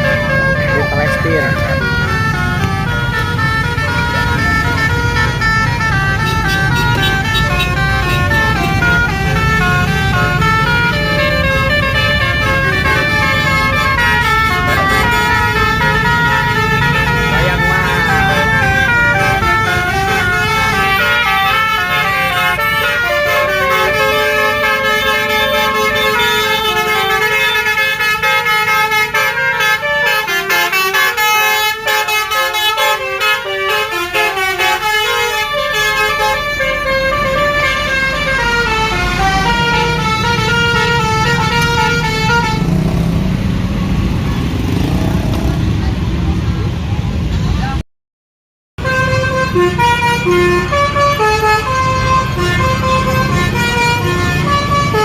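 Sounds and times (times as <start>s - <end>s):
bus horn playing a melody: 0.0s - 43.1s, 48.8s - 55.0s
engine and traffic rumble: 0.0s - 47.8s, 48.8s - 55.0s.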